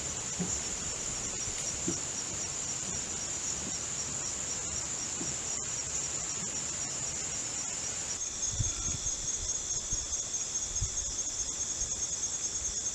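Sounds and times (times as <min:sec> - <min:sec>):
insect trilling: 0:00.0 - 0:12.9
low-pitched insect buzz: 0:00.0 - 0:12.9.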